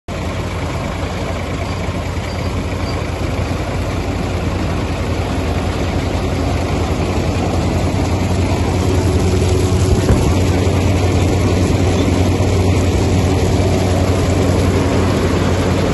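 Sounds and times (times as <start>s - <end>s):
tractor engine running: 0.1s - 15.9s.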